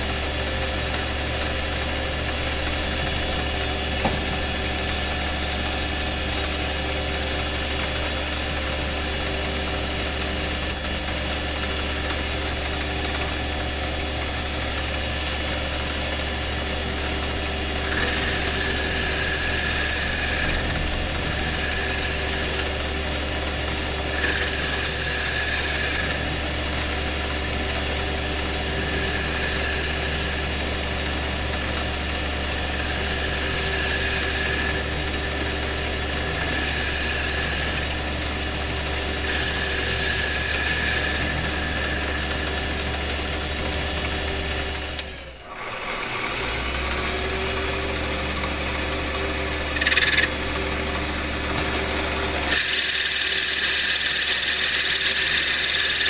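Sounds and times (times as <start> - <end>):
electric motor humming: 0.8 - 15.1, 16.3 - 56.0.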